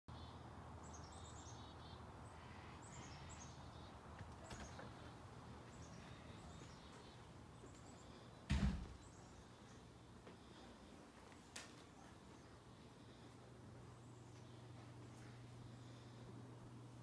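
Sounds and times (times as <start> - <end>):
faint songbird song: 0.1 - 10.9, 11.8 - 17.0
low steady hum: 0.1 - 17.0.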